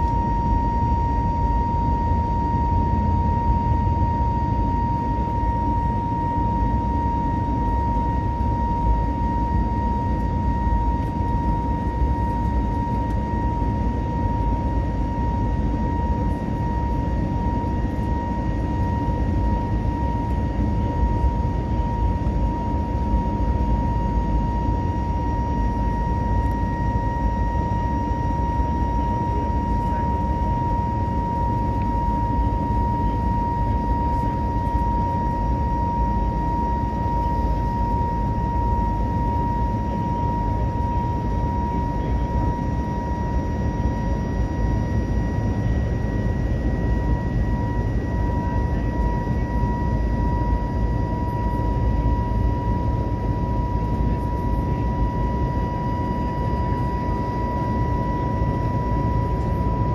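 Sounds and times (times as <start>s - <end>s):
airliner cabin engine rush: 0.0s - 59.9s
high-pitched whine: 0.0s - 59.9s.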